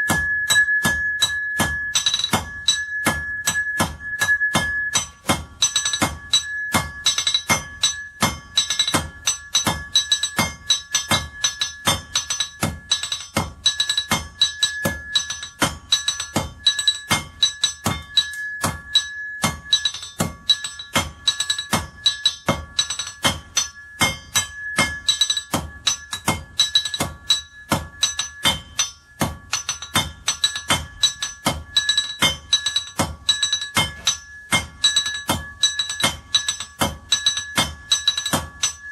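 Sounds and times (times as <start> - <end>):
hammer striking iron on anvil: 0.0 - 38.9.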